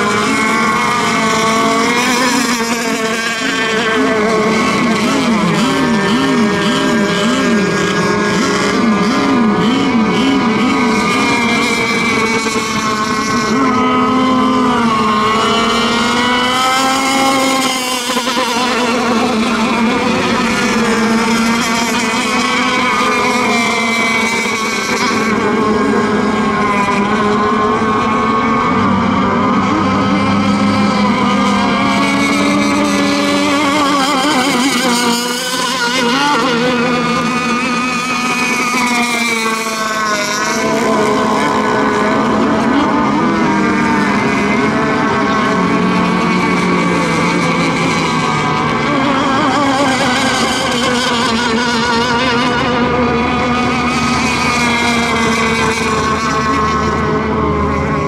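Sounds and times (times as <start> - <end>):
model boat engines whining: 0.0 - 58.0.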